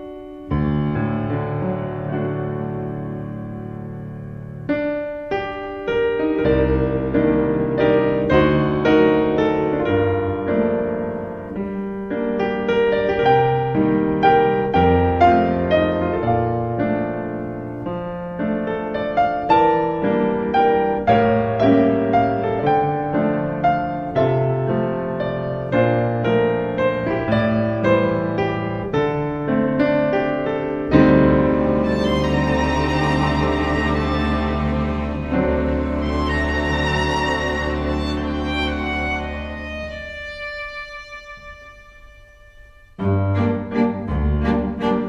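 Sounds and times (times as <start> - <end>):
solo piano music: 0.0 - 45.0.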